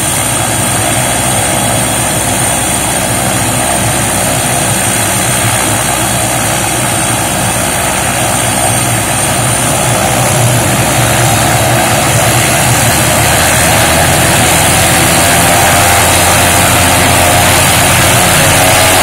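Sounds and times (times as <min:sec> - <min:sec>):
helicopter turbine engine whine: 0:00.0 - 0:19.0.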